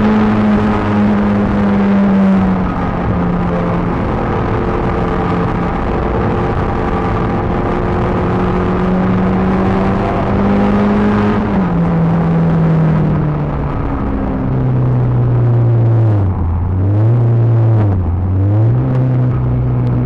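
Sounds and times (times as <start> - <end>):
car engine running hard: 0.0 - 20.0
road and wind noise: 0.0 - 20.0.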